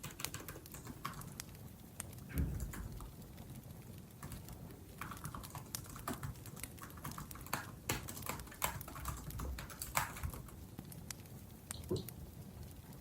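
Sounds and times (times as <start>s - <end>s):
laptop keyboard typing: 0.0s - 12.2s.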